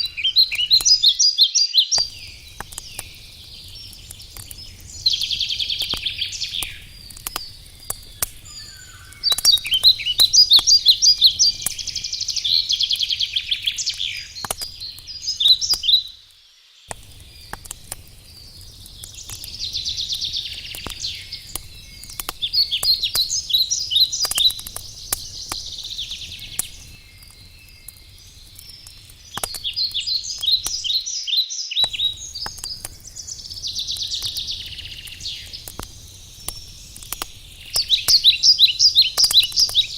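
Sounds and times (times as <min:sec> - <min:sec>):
campfire crackling and popping: 0:00.0 - 0:31.2, 0:31.8 - 0:39.9
birds singing: 0:00.0 - 0:39.9.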